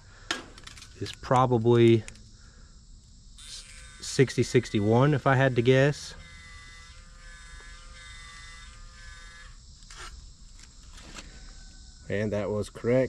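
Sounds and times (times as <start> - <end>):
steady electric buzz: 0.0 - 11.0.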